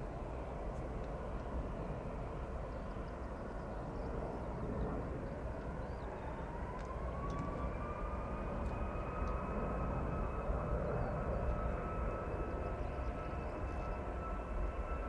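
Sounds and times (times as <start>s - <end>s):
rising turbine whine: 0.0s - 15.0s.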